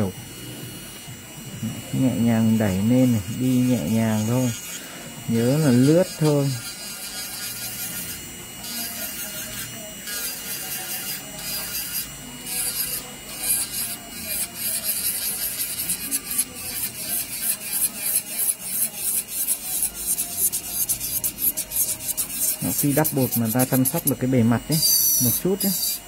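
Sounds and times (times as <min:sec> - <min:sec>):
electric nail drill buffing: 0:00.0 - 0:26.0.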